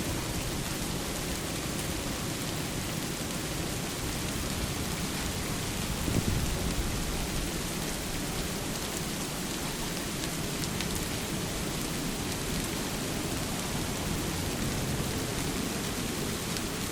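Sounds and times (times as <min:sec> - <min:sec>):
rain falling on water: 0:00.0 - 0:16.9.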